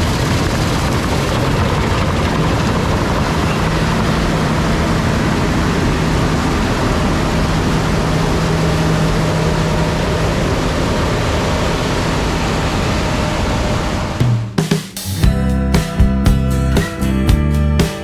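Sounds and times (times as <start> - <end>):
loud rush of machinery: 0.0 - 14.5.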